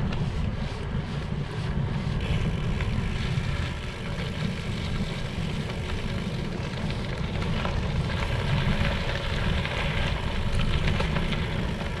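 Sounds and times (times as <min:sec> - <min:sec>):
bicycle tyres crackling over gravel: 0:00.0 - 0:12.0
wind buffeting microphone: 0:00.0 - 0:12.0.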